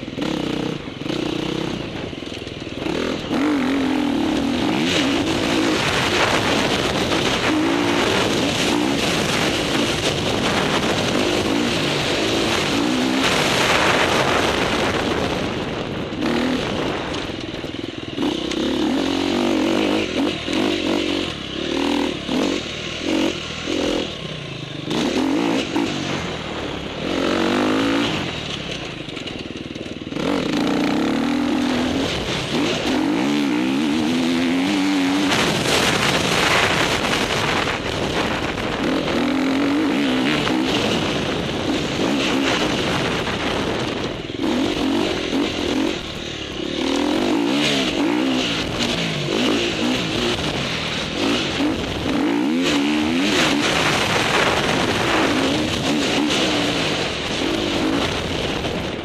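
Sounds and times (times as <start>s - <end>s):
motocross bike engine: 0.0s - 59.0s.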